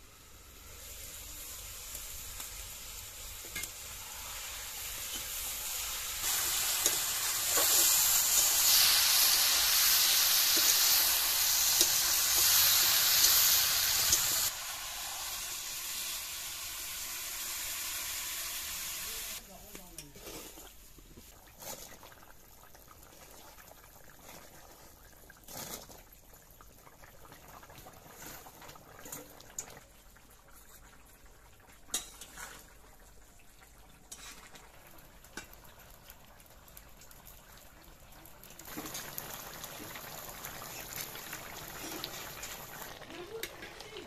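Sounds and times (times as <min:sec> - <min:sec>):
curry bubbling in a pan: 0:00.0 - 0:44.0.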